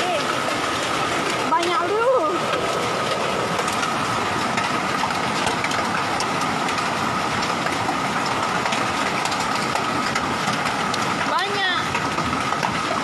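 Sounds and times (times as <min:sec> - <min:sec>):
hailstones ticking: 0:00.0 - 0:13.0
rain hissing: 0:00.0 - 0:13.0.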